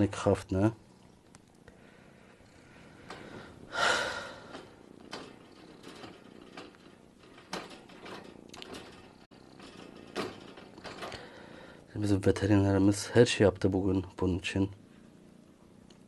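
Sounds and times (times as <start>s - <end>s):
kitten purring: 0.0s - 16.0s.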